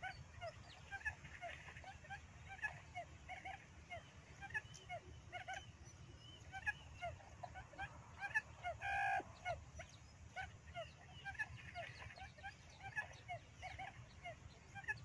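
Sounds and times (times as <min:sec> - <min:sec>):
quail chirping calls: 0:00.0 - 0:15.0.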